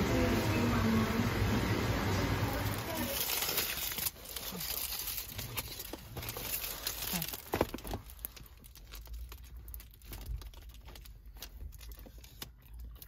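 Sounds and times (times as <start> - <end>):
aluminium foil crinkling: 2.5 - 13.0
paper bag crinkling: 2.5 - 13.0.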